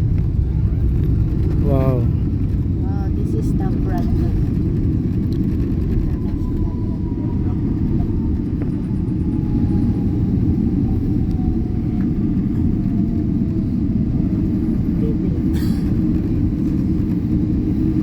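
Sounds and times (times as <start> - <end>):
jet cabin rumble: 0.0 - 18.0
jet engine whine: 0.0 - 18.0.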